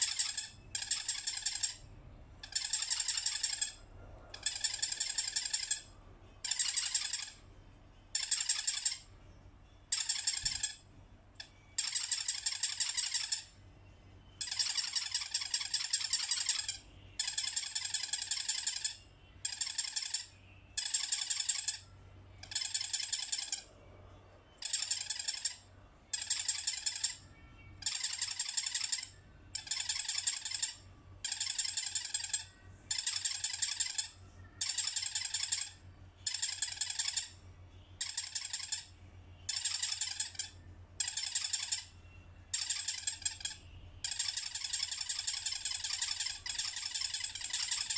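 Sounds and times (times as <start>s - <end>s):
toy squeaker squeaking: 0.0s - 23.8s, 24.5s - 47.9s.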